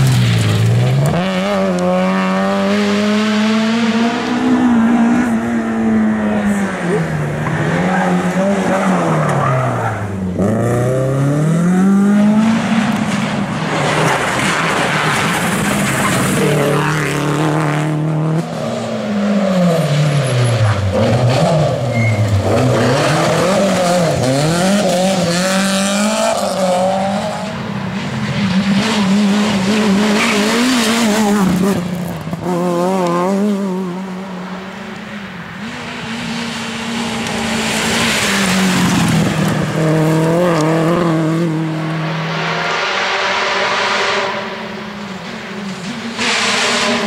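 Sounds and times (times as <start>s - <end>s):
rally car engines revving: 0.0s - 47.0s.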